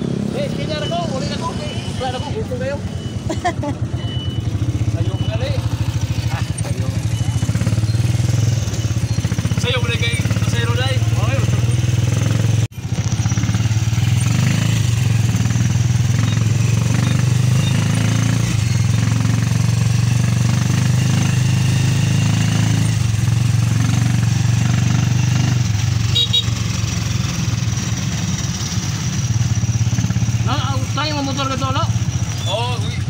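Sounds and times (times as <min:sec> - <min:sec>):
motorcycle engine droning: 0:00.0 - 0:33.0.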